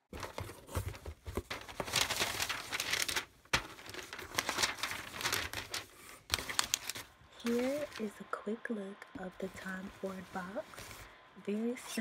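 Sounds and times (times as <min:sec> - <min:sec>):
paper crinkling and rustling: 0:00.1 - 0:08.2, 0:09.4 - 0:11.1.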